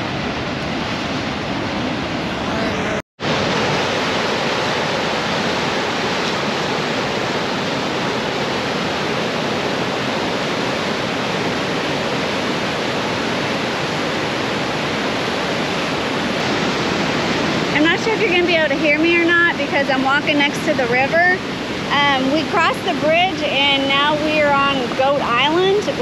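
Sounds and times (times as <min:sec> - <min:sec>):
rushing river rapids: 0:00.0 - 0:26.0.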